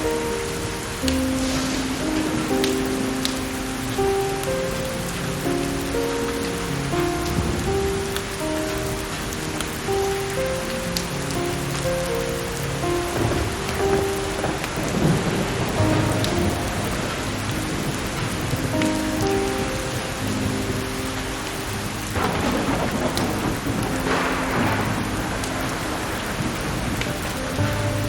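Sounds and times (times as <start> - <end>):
firewood crackling: 0.0 - 28.0
soft music of long held notes: 0.0 - 28.0
steady rain: 0.0 - 28.0
thunder rumbling: 0.0 - 28.0.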